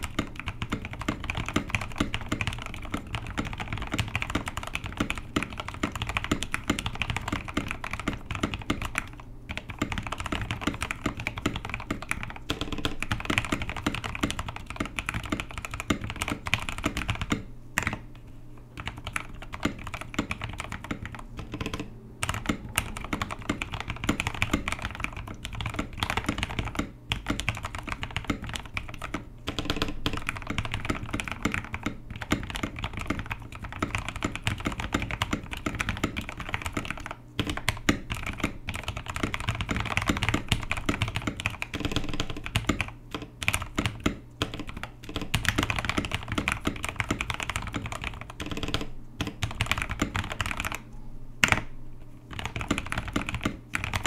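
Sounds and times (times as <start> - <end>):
mechanical keyboard typing: 0.0 - 18.0, 18.8 - 50.8, 51.4 - 51.7, 52.3 - 54.0.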